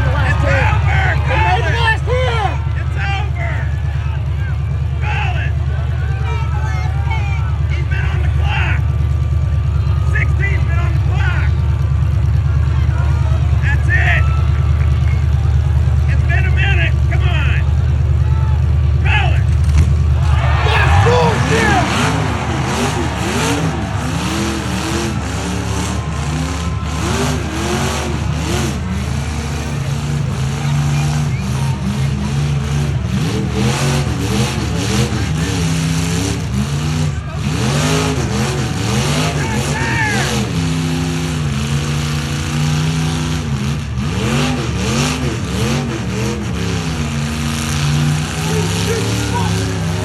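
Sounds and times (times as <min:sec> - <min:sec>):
truck engines revving: 0:00.0 - 0:50.0.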